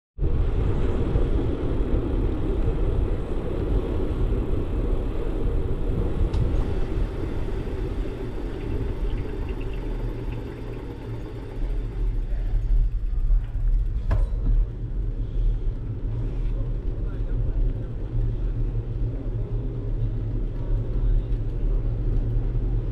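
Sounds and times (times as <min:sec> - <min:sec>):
bicycle tyres rolling on asphalt: 0:00.2 - 0:22.9
wind buffeting microphone: 0:00.2 - 0:22.9.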